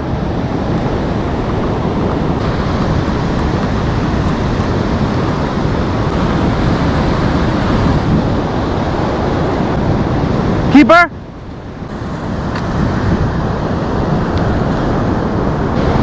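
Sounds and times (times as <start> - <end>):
ocean surf: 0.0 - 16.0
wind rumbling on microphone: 0.0 - 16.0.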